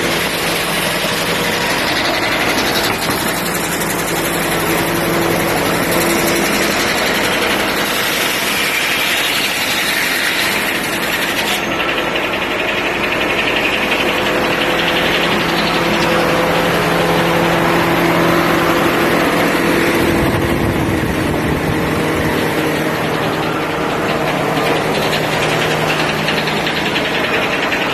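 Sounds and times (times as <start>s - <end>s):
diesel engine drone: 0.0s - 27.9s
sawmill machinery noise: 0.0s - 27.9s.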